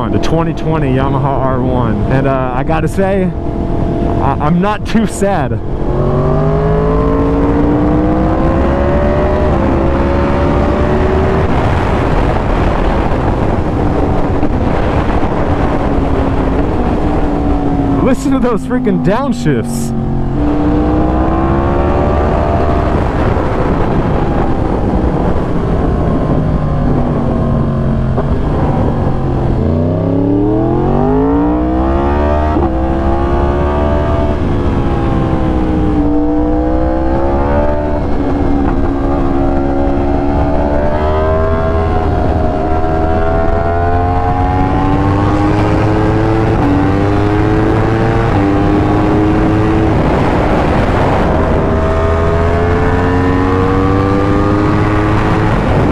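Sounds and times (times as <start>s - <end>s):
motorcycle engine revving: 5.4s - 55.9s.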